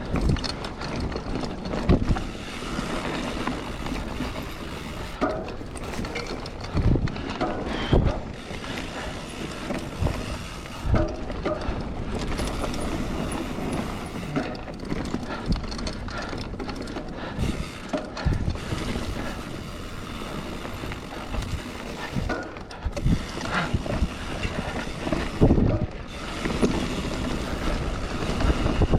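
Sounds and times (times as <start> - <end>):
bike creaks: 0.0 - 28.9
bike knocks and rattles: 0.0 - 28.9
wind and tyre noise: 0.0 - 28.9.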